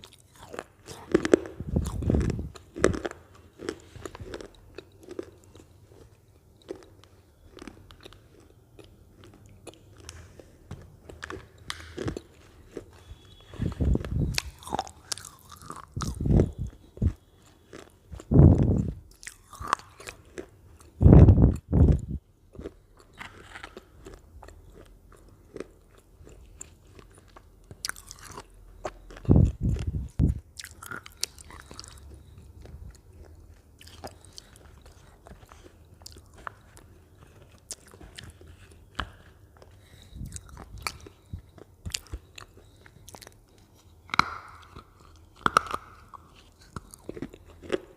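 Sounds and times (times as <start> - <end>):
potato chips crunching: 0.0 - 47.9.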